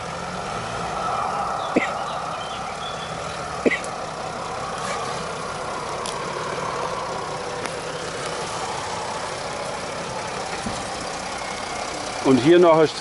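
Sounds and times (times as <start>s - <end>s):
diesel engine running at low speed: 0.0s - 13.0s.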